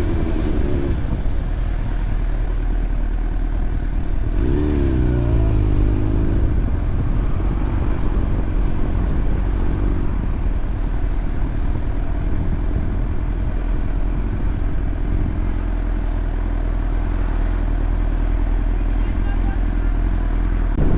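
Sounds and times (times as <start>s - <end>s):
low rushing noise: 0.0s - 20.9s
motorcycle engine running: 0.0s - 20.9s.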